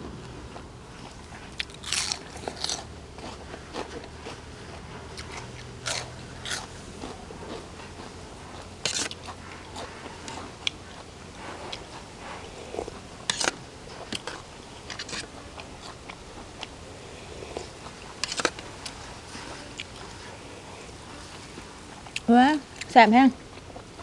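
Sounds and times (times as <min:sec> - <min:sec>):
crunchy chewing: 0:00.2 - 0:24.0.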